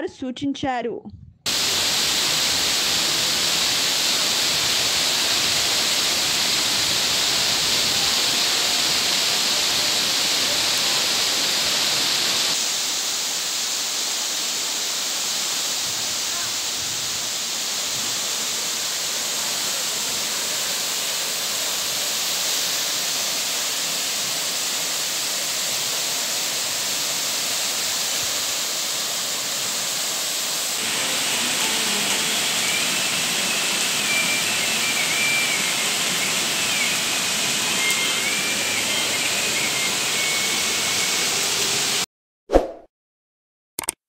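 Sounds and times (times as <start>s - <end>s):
waterfall rushing: 1.5s - 42.0s.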